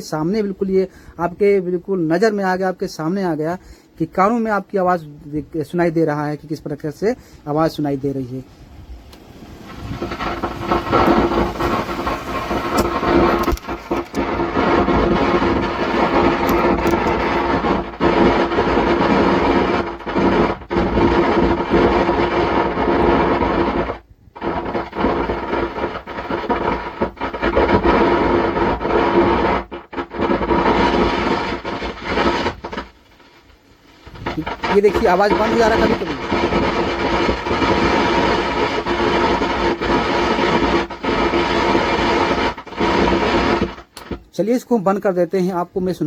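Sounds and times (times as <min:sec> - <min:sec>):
speaker crackling rumble: 0:00.0 - 0:46.0
steady hum: 0:00.0 - 0:46.0
hiss: 0:07.0 - 0:44.2.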